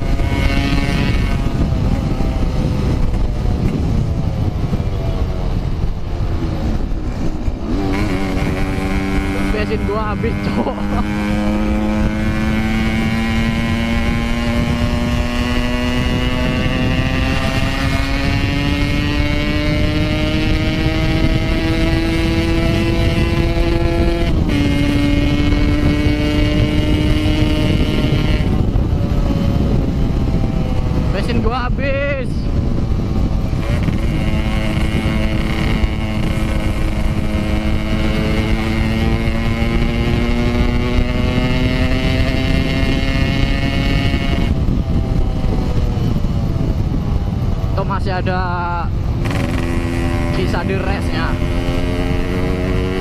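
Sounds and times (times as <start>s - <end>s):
motorcycle engine at high revs: 0.0s - 53.0s
wind rumbling on microphone: 0.0s - 53.0s.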